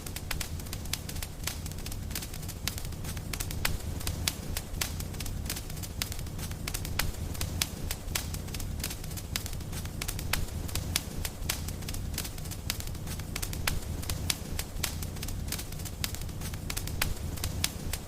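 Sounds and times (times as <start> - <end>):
low rumble of burning: 0.0 - 18.0
sharp fire pops: 0.0 - 18.0
wood fire crackling: 0.0 - 18.0.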